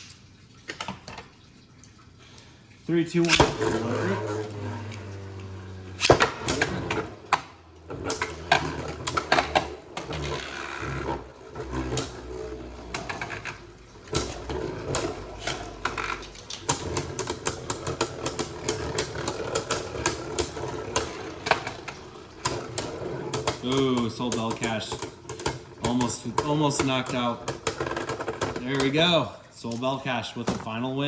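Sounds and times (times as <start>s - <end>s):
spinning tops whirring: 3.1s - 29.2s
plastic tops clacking: 3.2s - 29.1s.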